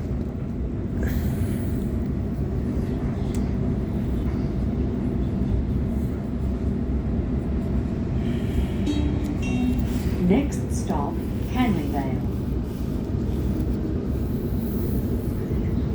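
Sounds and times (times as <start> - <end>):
train wheels rumbling on track: 0.0 - 15.9.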